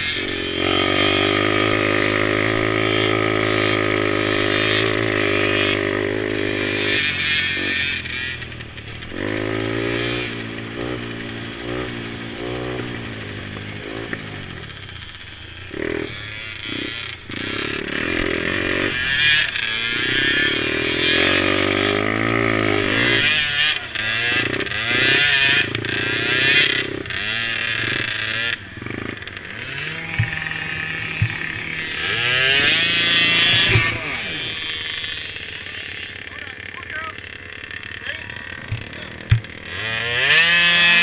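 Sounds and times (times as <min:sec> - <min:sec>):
small quad engines revving: 0:00.0 - 0:41.0.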